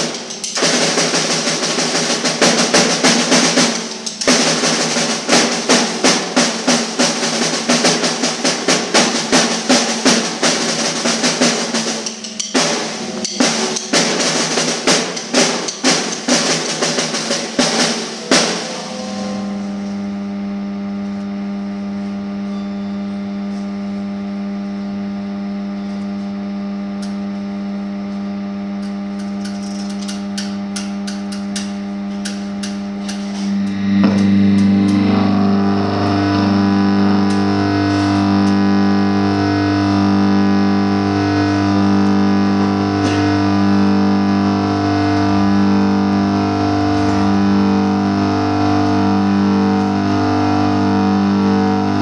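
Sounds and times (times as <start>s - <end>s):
pulsing loud chord: 0.0s - 23.3s, 28.3s - 52.0s
distorted drone of held tones: 0.0s - 52.0s.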